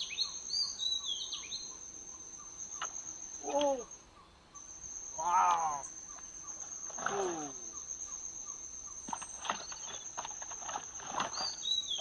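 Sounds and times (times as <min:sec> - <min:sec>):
high insect whine: 0:00.0 - 0:12.0.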